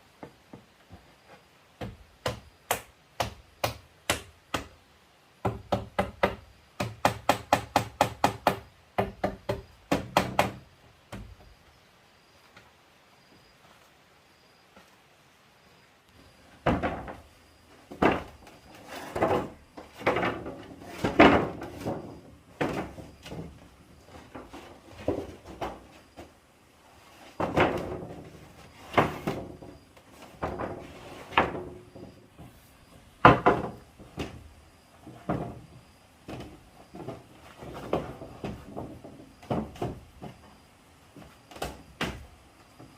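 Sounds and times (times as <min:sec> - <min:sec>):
wooden knocks and bangs: 0:00.2 - 0:04.8, 0:05.4 - 0:11.6, 0:16.4 - 0:26.4, 0:27.0 - 0:42.9.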